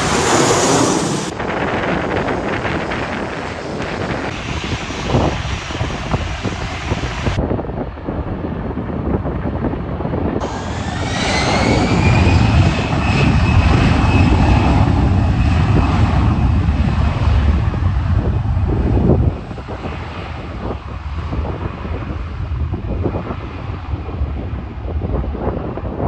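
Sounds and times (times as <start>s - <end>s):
airliner engine whine: 0.0s - 26.0s
deep jet engine rumble: 0.0s - 26.0s
wind on microphone: 0.0s - 26.0s.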